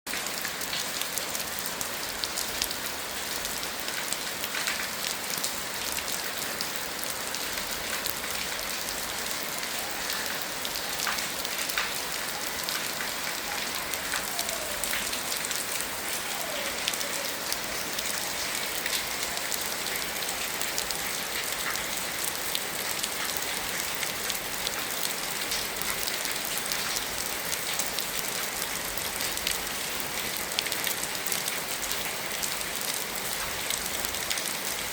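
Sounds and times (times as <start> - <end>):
rain on hard surfaces: 0.1 - 34.9.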